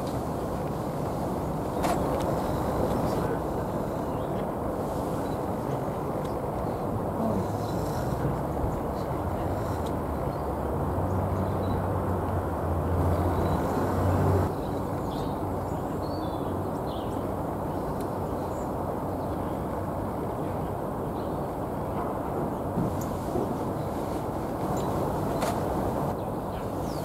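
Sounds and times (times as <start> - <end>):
low outdoor background rumble: 0.0 - 27.0.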